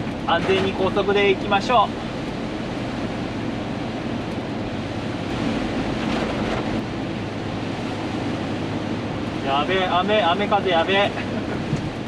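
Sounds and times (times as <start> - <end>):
diesel engine humming: 0.0 - 12.0
rain on truck cab: 0.0 - 12.0.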